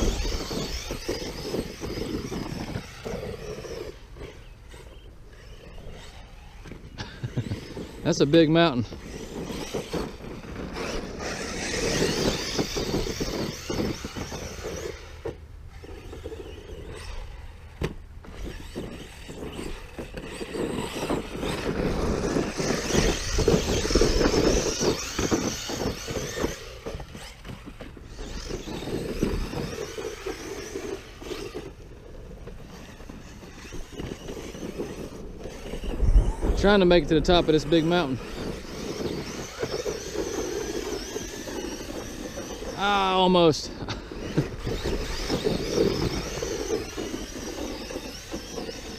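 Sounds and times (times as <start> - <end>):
electric rc truck motor surging: 0.0 - 48.9
tires spraying dirt: 0.0 - 48.9.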